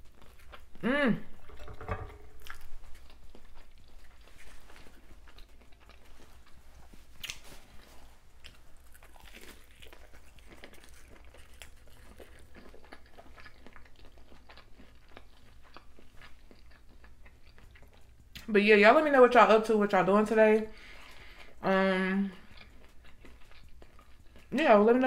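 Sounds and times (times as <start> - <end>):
chewing and crunching: 0.0 - 18.5, 20.8 - 25.0.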